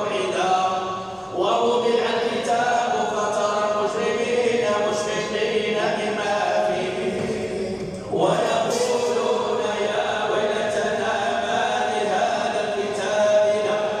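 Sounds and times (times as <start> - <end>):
person chanting recitation: 0.0 - 14.0.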